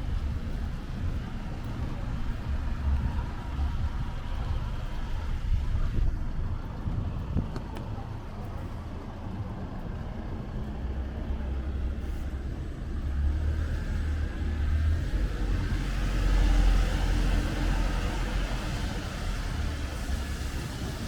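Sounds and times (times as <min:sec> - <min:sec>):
vehicles passing with engine rumble: 0:00.0 - 0:21.0.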